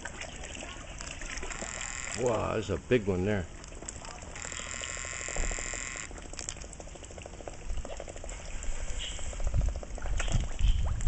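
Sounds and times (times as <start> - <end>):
swans dabbling wet chattering: 0.0 - 11.0.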